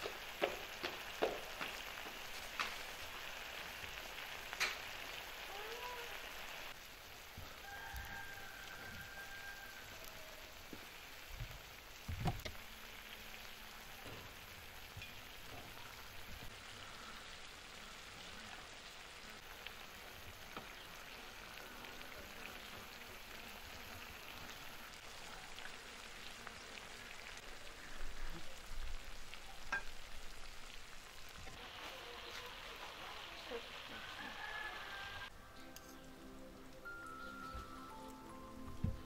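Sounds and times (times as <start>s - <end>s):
meat sizzling in a pan: 0.0s - 35.3s.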